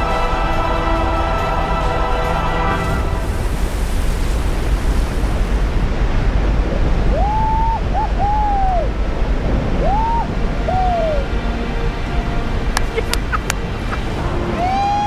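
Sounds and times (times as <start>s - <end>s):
rushing water roar: 0.0s - 15.0s.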